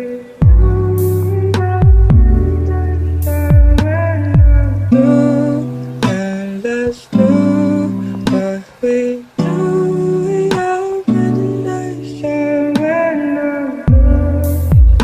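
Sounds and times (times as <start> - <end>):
lo-fi remix music: 0.0 - 15.0
strummed guitar chords: 0.0 - 15.0.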